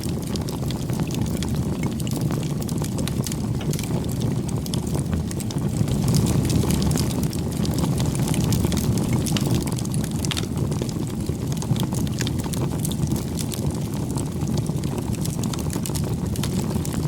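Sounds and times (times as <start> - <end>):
campfire flames rushing: 0.0 - 17.0
fire crackling and popping: 0.0 - 17.0.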